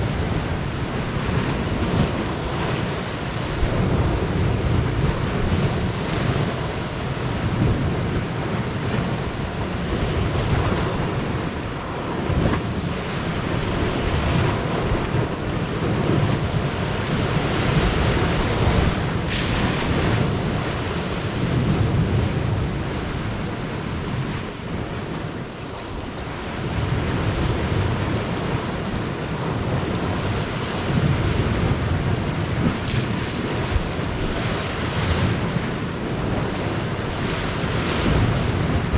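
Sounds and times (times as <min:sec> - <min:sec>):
ocean waves crashing: 0:00.0 - 0:38.9
wind buffeting microphone: 0:00.0 - 0:38.9.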